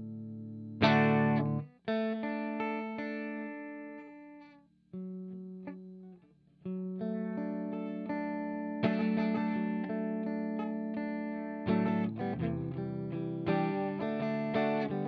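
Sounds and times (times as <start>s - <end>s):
electric guitar chords strummed: 0.0s - 4.4s, 5.0s - 15.0s.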